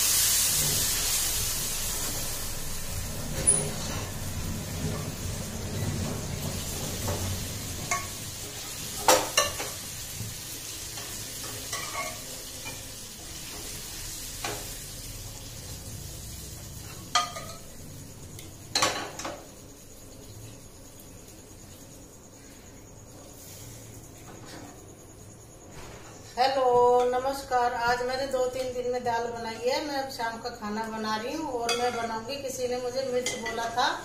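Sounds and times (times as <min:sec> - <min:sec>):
steady sizzle: 0:00.0 - 0:34.0.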